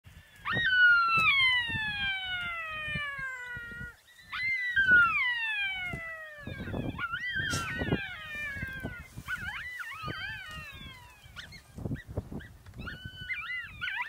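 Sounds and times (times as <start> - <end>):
wolf howling: 0.4 - 11.7, 12.8 - 14.0.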